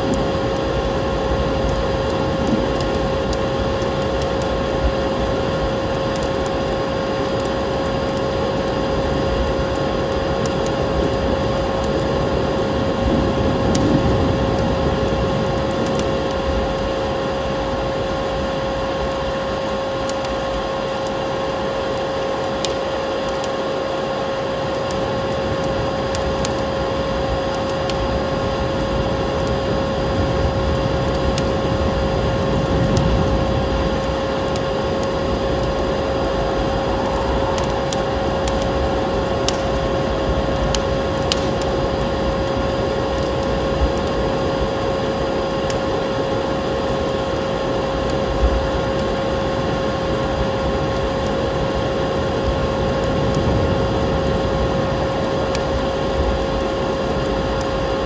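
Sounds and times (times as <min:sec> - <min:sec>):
vacuum cleaner whine: 0:00.0 - 0:58.0
wood fire crackling: 0:00.0 - 0:58.0.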